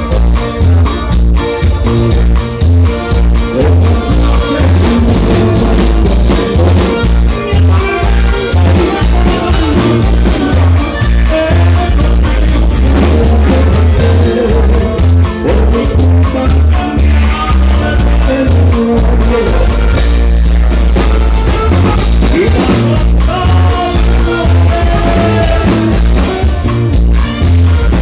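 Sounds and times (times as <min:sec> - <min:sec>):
live band dance music: 0:00.0 - 0:28.0
steady bass beat: 0:00.0 - 0:28.0.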